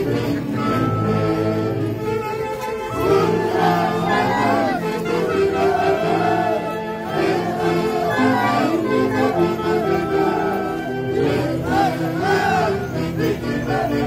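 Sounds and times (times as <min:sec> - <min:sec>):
crowd voices: 0:00.0 - 0:14.0.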